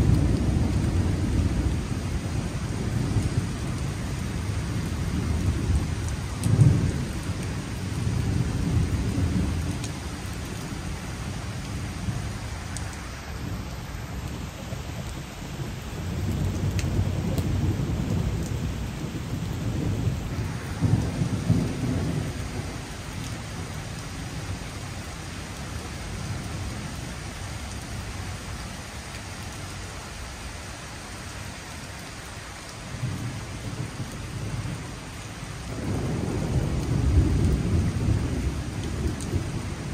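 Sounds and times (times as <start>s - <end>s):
rain on pavement: 0.0s - 39.9s.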